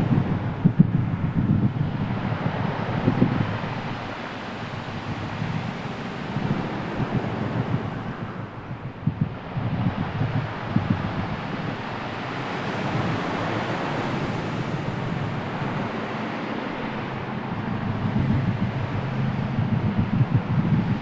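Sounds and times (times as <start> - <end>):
sea waves washing in: 0.0 - 21.0
wind gusting on microphone: 0.0 - 21.0.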